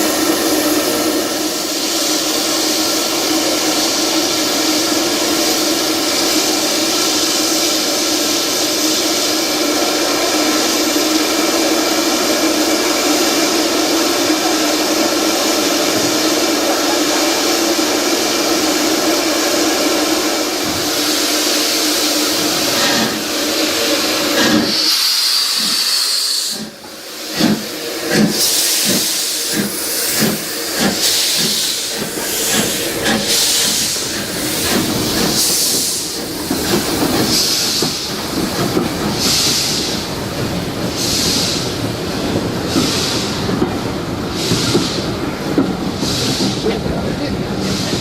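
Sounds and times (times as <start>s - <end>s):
steam hissing: 0.0s - 48.0s
steam locomotive exhaust beats: 0.0s - 48.0s.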